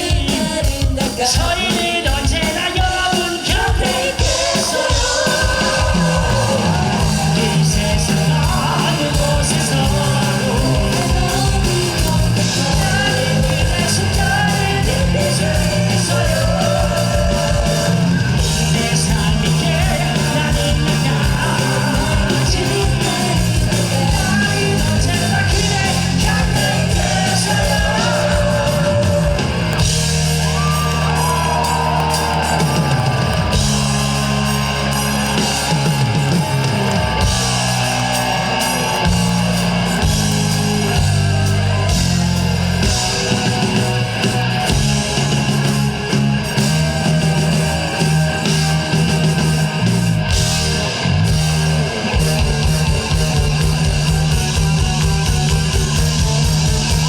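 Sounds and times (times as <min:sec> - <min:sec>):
fast low drum beats: 0:00.0 - 0:57.0
live rock band playing: 0:00.0 - 0:57.0
gliding electric guitar lead: 0:04.2 - 0:57.0.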